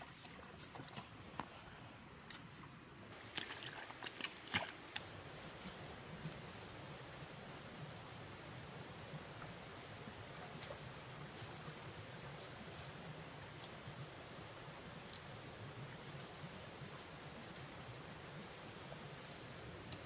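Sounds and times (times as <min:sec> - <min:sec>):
insects chirping: 0:00.1 - 0:20.0.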